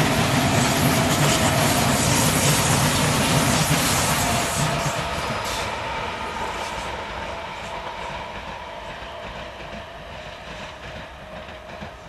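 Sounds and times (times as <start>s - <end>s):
train rolling over rails: 0.0s - 12.0s
train whine: 0.0s - 12.0s.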